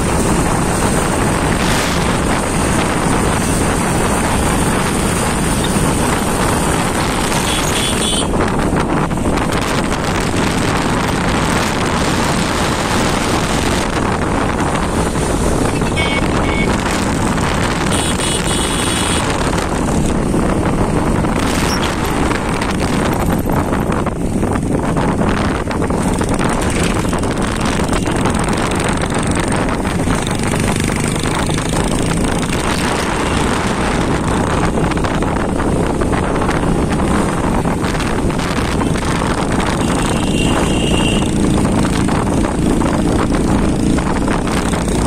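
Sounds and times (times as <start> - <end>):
motorcycle engine running: 0.0 - 45.0
wind rushing on microphone: 0.0 - 45.0.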